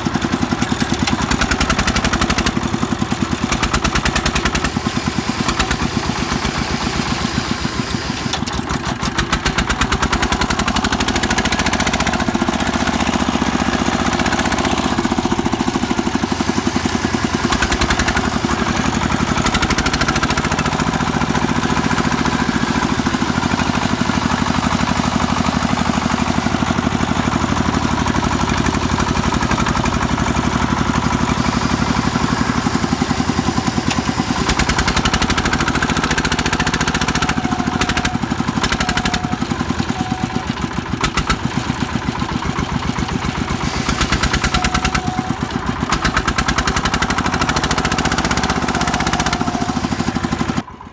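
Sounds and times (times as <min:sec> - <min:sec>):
diesel engine chugging: 0:00.0 - 0:50.9.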